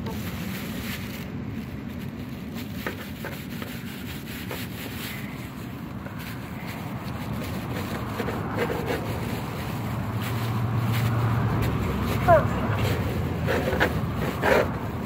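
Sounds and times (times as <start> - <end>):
knife sawing through fish: 2.8 - 15.0.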